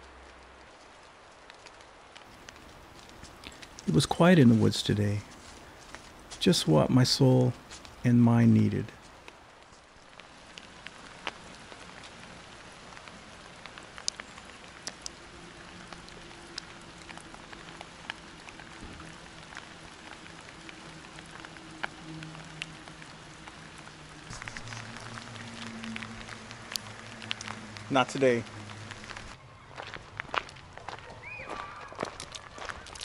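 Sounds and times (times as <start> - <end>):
light rain falling: 0.0 - 33.0.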